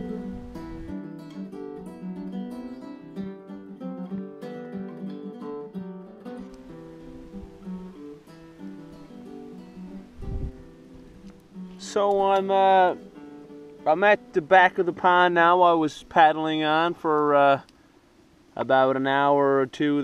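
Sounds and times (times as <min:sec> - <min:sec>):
acoustic guitar plucking: 0:00.0 - 0:17.3.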